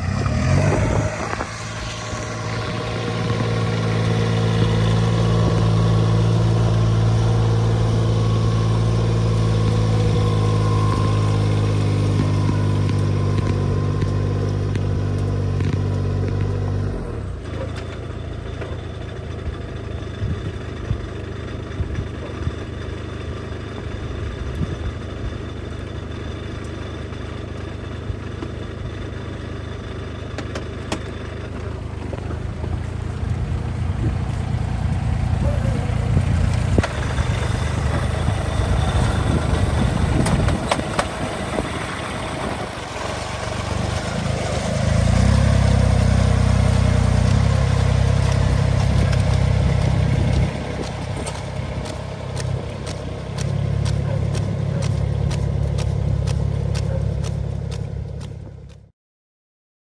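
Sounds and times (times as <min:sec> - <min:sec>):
rice transplanter engine running: 0:00.0 - 0:58.8.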